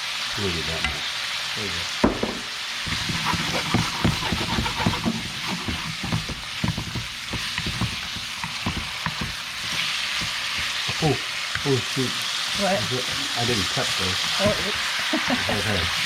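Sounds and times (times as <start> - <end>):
clams sizzling in a pan: 0.0 - 16.0
utensil scraping a pan: 2.9 - 16.0.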